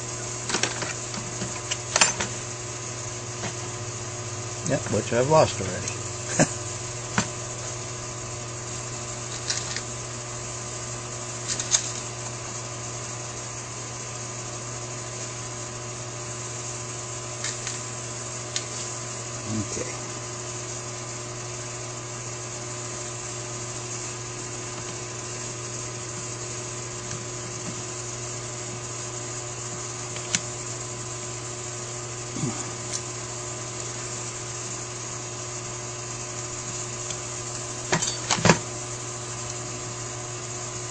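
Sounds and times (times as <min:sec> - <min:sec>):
equipment humming: 0:00.0 - 0:40.9.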